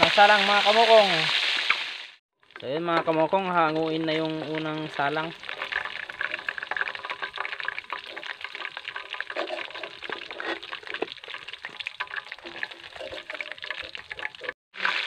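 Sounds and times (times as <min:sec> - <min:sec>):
food deep-frying in oil: 0:00.0 - 0:15.0
metal spatula scraping pan: 0:02.9 - 0:15.0.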